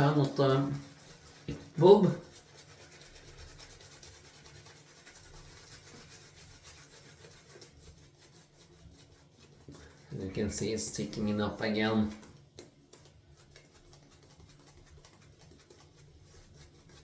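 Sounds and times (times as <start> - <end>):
shaving brush swishing lather: 0.0 - 17.0.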